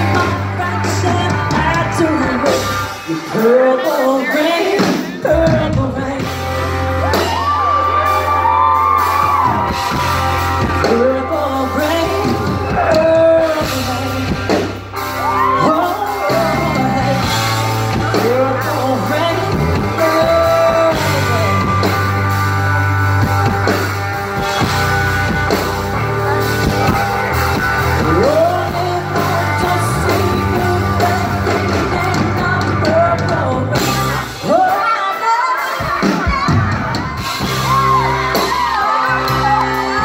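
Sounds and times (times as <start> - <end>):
woman singing rock ballad: 0.0 - 9.5, 10.8 - 22.9, 27.8 - 40.0
band playing bass and chords: 0.0 - 40.0.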